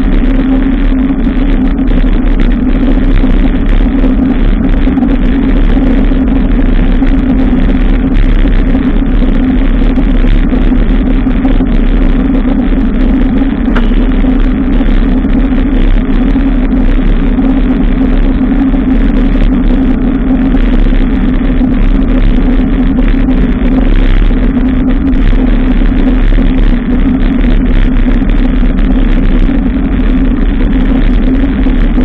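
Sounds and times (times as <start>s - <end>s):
bicycle road noise: 0.0s - 32.0s
motor traffic: 0.0s - 32.0s.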